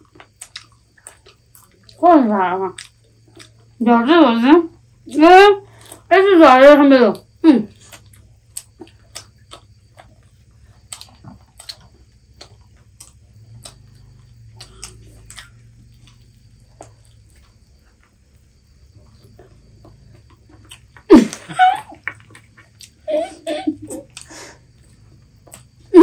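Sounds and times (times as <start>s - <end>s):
people eating crunchy food: 0.0s - 3.8s, 4.8s - 6.1s, 7.2s - 26.0s.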